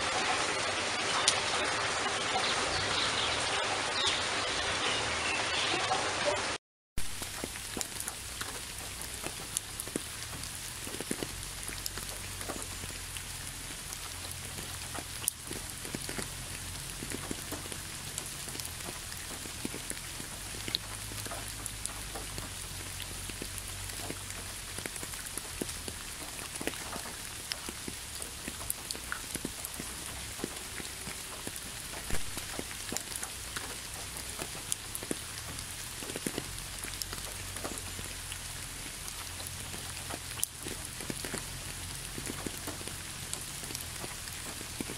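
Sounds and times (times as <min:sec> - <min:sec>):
raindrops ticking: 0:00.0 - 0:44.9
steady rain: 0:00.0 - 0:44.9.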